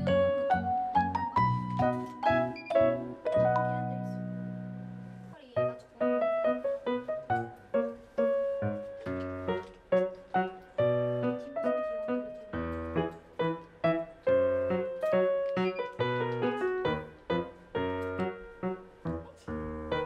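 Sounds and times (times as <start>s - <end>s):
bouncy piano chords: 0.0s - 20.0s.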